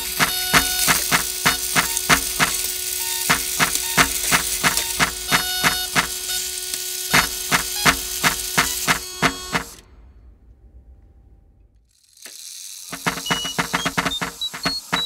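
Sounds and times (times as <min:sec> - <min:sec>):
clockwork gears clacking: 0:00.0 - 0:15.0
steady hum: 0:00.0 - 0:15.0.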